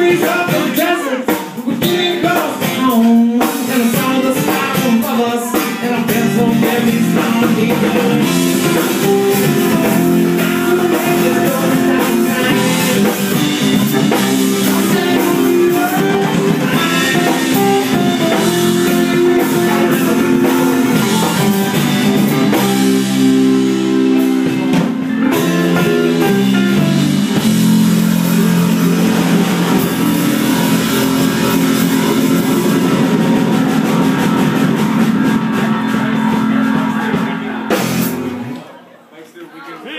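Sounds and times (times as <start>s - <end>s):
rock music with guitar and drums: 0.0s - 38.5s.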